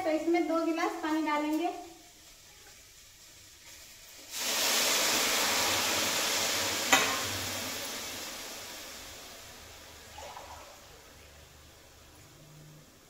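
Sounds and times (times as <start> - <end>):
loud sizzle of water in hot oil: 0.0 - 13.0.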